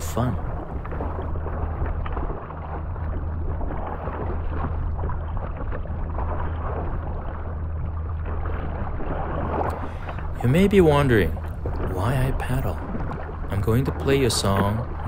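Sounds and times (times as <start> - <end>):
low steady rumble: 0.0 - 15.0
water splashing off kayak paddle: 0.0 - 15.0.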